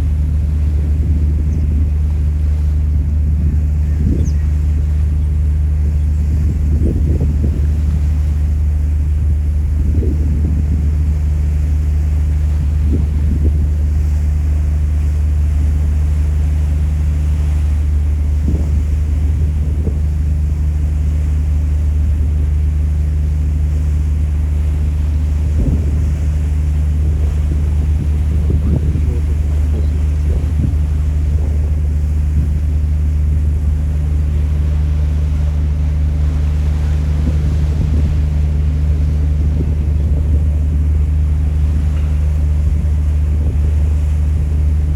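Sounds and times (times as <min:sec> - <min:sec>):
ferry engine droning: 0:00.0 - 0:44.9
rushing water: 0:00.0 - 0:44.9
wind buffeting microphone: 0:00.0 - 0:44.9.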